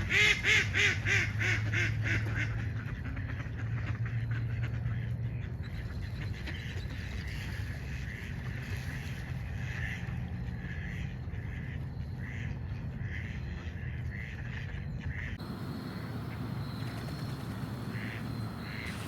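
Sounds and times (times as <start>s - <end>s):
ducks quacking: 0.0s - 19.0s
low background rumble: 0.0s - 19.0s.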